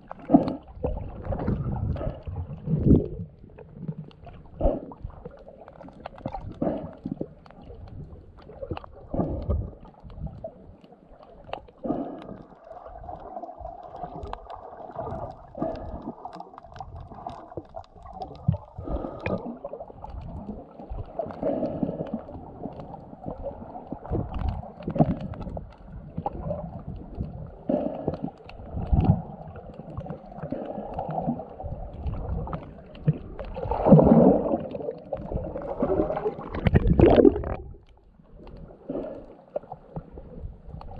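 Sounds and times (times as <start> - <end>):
water sloshing underwater: 0.0 - 40.9.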